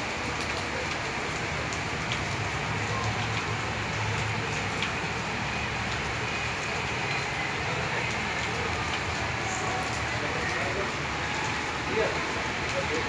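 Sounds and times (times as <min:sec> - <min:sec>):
rain falling: 0:00.0 - 0:13.0
raindrops ticking: 0:00.0 - 0:13.0.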